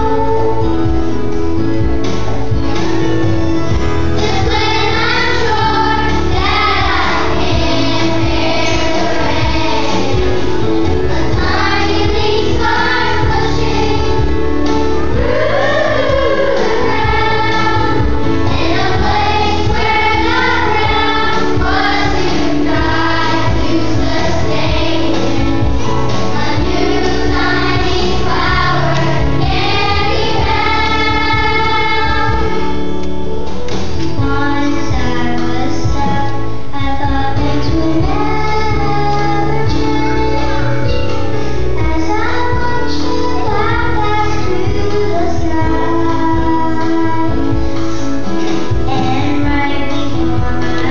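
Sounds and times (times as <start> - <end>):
instrumental accompaniment: 0.0 - 50.9
girls singing into microphones: 4.1 - 33.0, 34.2 - 50.9.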